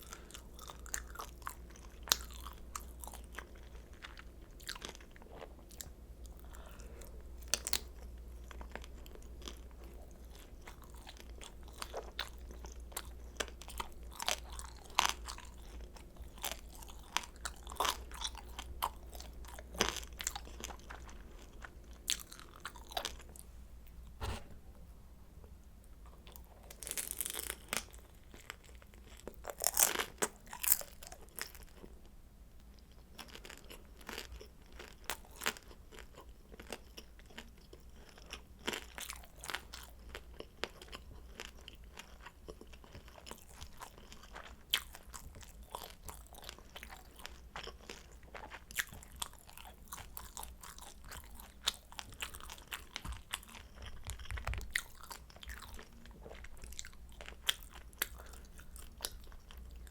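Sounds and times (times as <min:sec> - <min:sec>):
crunching and chewing dumplings: 0:00.0 - 0:24.1, 0:25.9 - 0:59.9.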